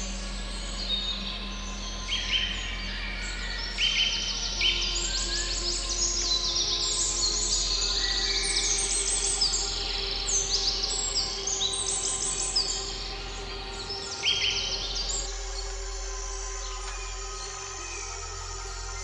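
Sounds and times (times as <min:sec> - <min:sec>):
soft music of held tones: 0:00.0 - 0:19.0.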